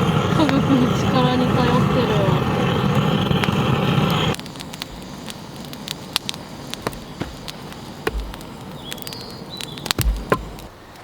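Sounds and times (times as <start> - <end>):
sharp pops: 0.0 - 11.0
wood fire crackling: 0.0 - 11.0.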